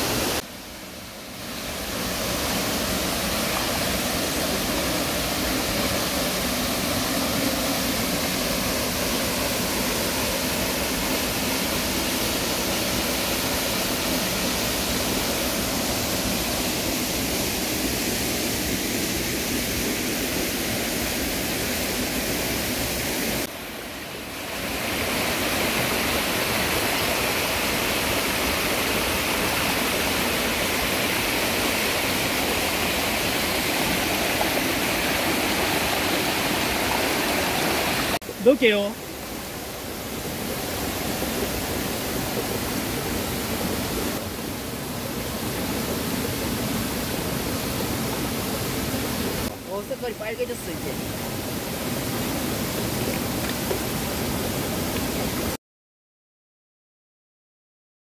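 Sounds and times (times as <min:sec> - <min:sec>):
stream rushing over rocks: 0:00.0 - 0:55.6.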